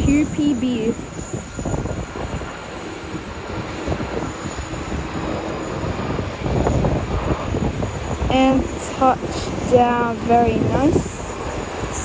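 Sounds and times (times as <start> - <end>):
jet engines rumbling and hissing: 0.0 - 12.0.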